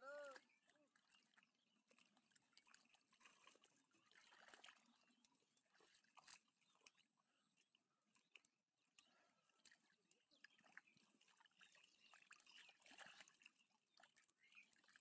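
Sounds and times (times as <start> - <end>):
hands sloshing through mud: 0.4 - 8.4, 9.5 - 15.0.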